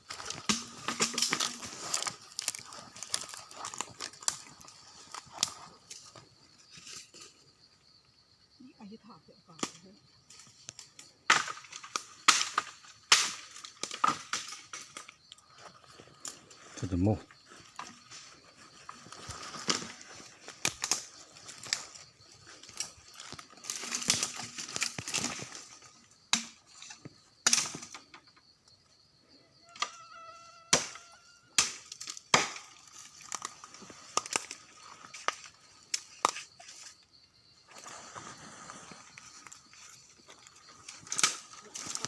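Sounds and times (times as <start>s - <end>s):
crackles and rustles of dry litter: 0.0s - 8.0s, 9.8s - 27.3s, 31.9s - 42.0s
insects buzzing: 0.0s - 42.0s.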